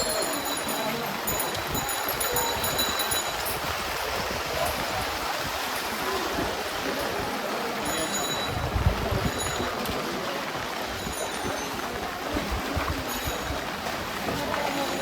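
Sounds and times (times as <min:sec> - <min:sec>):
floodwater rushing and splashing: 0:00.0 - 0:15.0.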